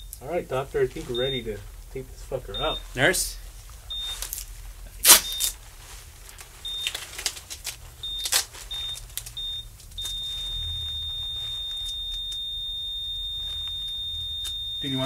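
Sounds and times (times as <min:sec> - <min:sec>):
heart monitor beeping: 0:00.0 - 0:04.4, 0:05.0 - 0:05.6, 0:06.6 - 0:07.1, 0:07.9 - 0:15.0
continuous flatline tone: 0:00.0 - 0:05.7, 0:06.4 - 0:15.0.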